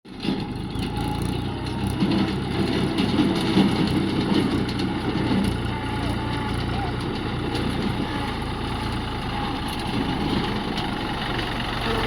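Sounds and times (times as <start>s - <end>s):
heavy diesel engine running: 0.1s - 12.0s.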